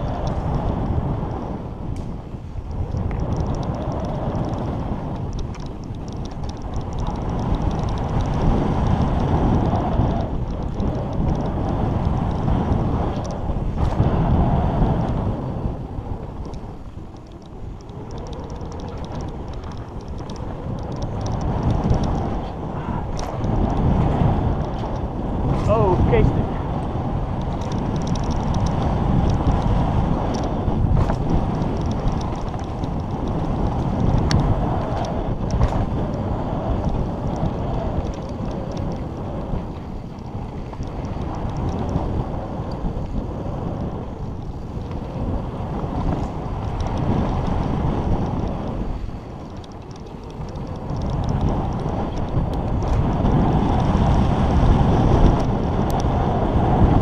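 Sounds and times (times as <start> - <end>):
bike clacking over bumps: 0.0 - 57.0
bike tyres rumbling on dirt: 0.0 - 57.0
wind buffeting microphone: 0.0 - 57.0.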